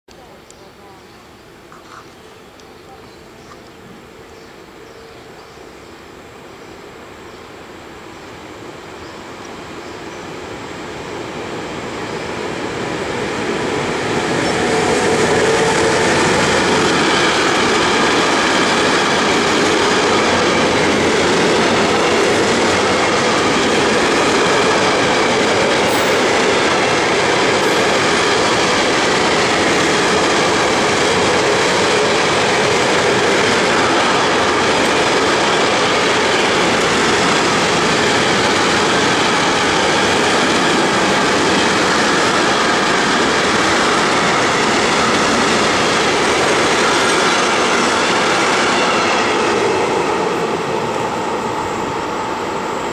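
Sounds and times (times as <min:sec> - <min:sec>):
train wheels on rails: 0:00.1 - 0:52.9.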